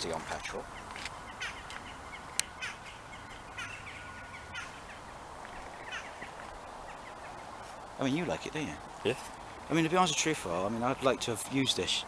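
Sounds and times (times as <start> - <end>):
bird calls: 0.0 - 12.0
outdoor background hiss: 0.0 - 12.0.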